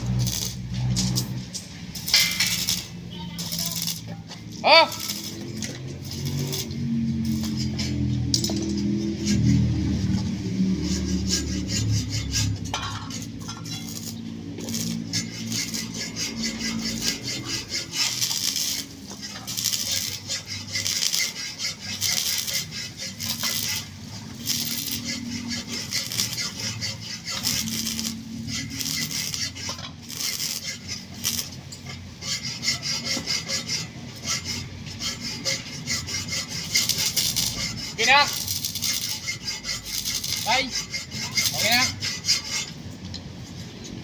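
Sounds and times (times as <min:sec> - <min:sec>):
hand tool scraping hard surface: 0:00.0 - 0:42.8.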